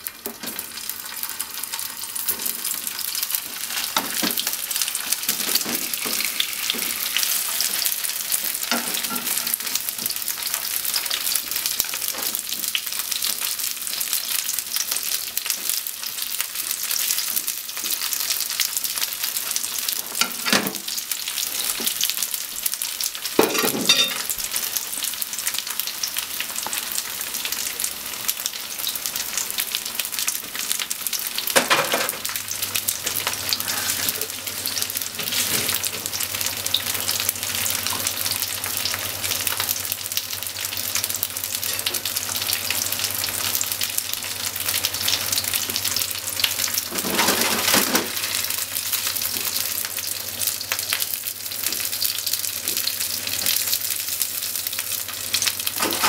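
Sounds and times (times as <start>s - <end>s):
tofu sizzling in hot oil: 0.0s - 56.0s.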